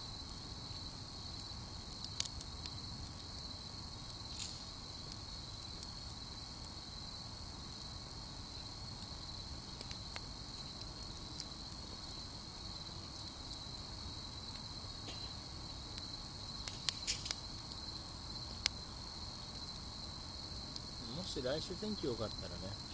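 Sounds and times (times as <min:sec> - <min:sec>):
crickets trilling: 0:00.0 - 0:22.9.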